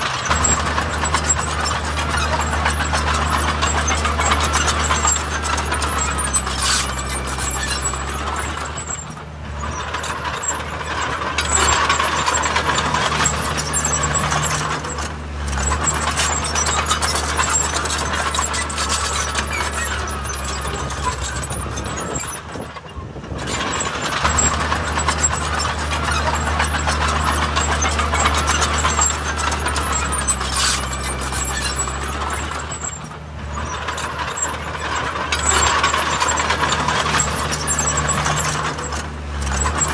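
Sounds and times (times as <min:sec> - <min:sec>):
diesel engine drone: 0:00.0 - 0:39.9
machinery mechanical rattle: 0:00.0 - 0:39.9.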